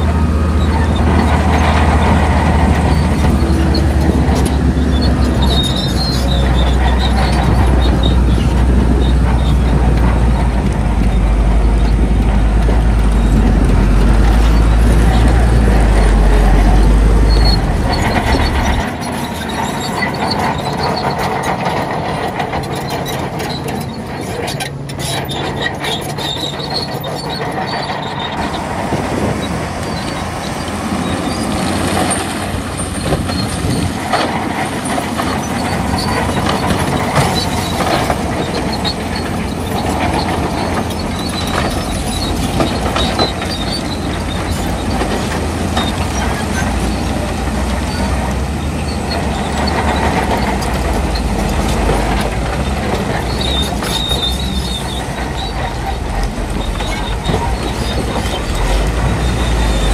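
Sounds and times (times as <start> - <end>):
diesel engine under load: 0.0 - 59.9
steel tracks clanking and squealing: 0.0 - 59.9.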